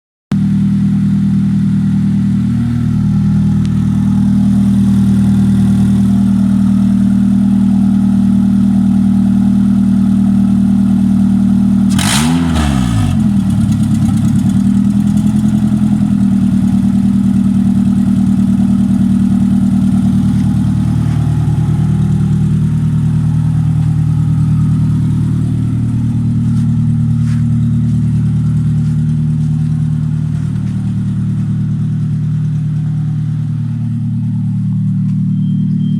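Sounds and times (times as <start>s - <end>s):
car engine idling and revving: 0.3s - 35.9s.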